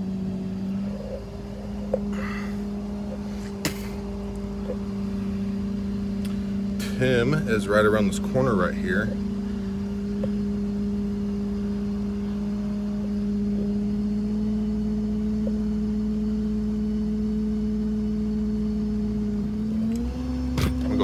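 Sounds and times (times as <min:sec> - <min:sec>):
truck engine drone from cab: 0:00.0 - 0:21.0.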